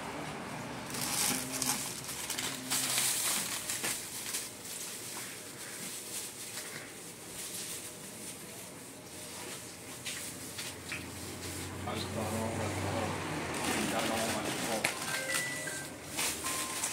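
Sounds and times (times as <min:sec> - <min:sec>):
plastic bag crinkling: 0:00.8 - 0:11.6, 0:13.5 - 0:16.9.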